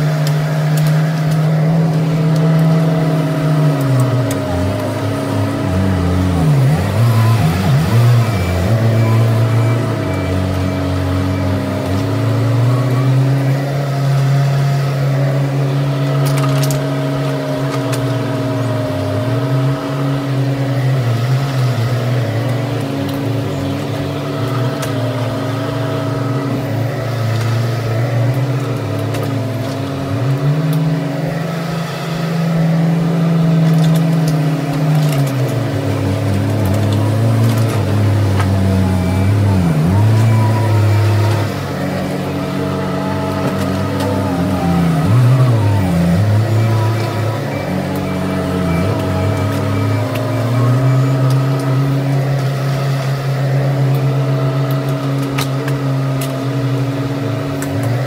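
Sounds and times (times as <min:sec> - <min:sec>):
mini excavator diesel engine: 0:00.0 - 0:58.0.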